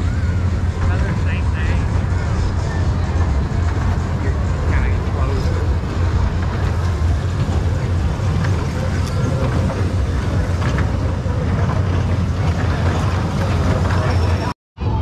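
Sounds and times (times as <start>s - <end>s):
faint voices: 0.0s - 15.0s
steady low rumble: 0.0s - 15.0s.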